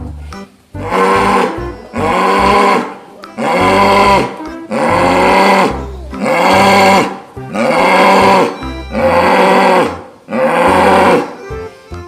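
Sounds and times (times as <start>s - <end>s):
music with pulsing bass: 0.0s - 12.0s
cow-like moo: 0.8s - 11.4s.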